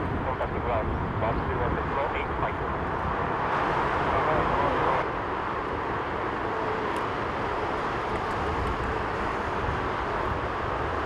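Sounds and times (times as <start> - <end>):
distant jet engine noise: 0.0 - 11.0.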